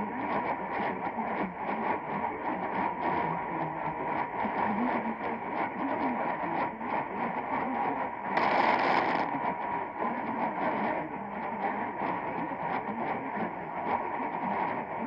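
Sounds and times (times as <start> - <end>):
faint radio programme audio: 0.0 - 15.0
radio hiss: 0.0 - 15.0
static crackles: 0.2 - 15.0.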